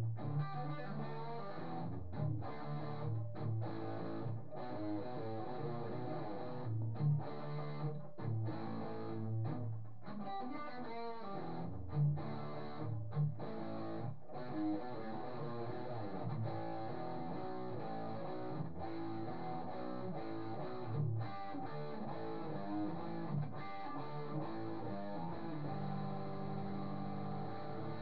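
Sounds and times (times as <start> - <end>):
guitar strummed in chords: 0.0 - 28.0.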